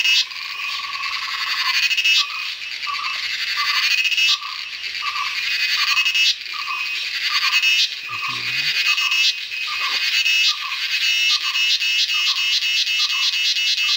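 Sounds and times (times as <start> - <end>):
cicada buzzing song: 0.0 - 13.9
lower pulsed insect call: 0.0 - 13.9.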